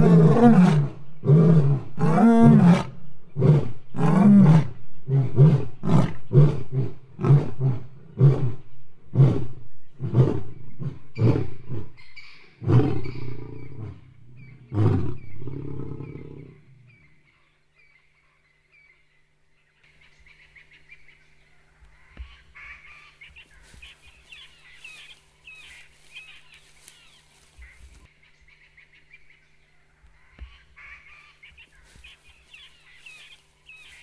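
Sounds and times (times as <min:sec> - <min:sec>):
wild birds chirping: 0:00.0 - 0:34.0.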